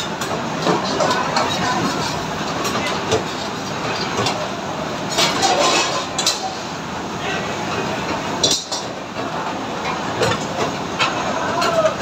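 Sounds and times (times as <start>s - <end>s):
gas burners and exhaust hood rushing: 0.0s - 12.0s.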